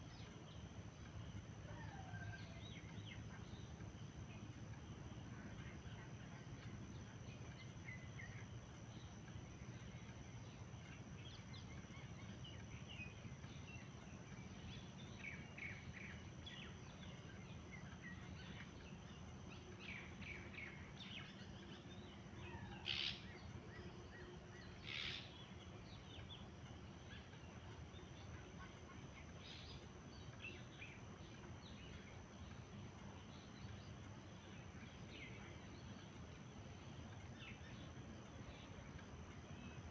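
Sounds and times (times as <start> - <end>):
low background rumble: 0.0 - 39.9
wild birds chirping: 0.0 - 39.9.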